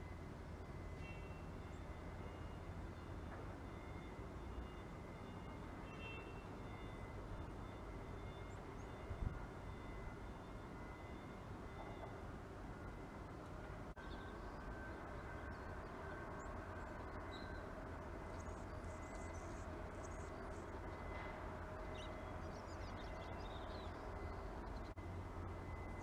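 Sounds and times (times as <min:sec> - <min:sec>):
urban background hum: 0:00.0 - 0:26.0.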